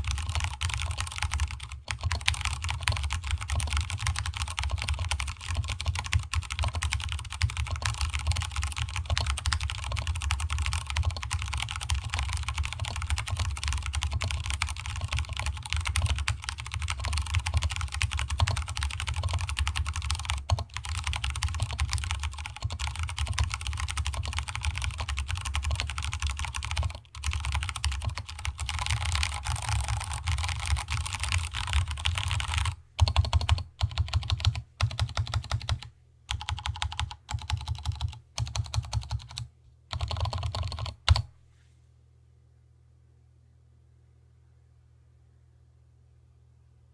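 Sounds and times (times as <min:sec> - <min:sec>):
fast typing on keyboard: 0:00.0 - 0:41.3.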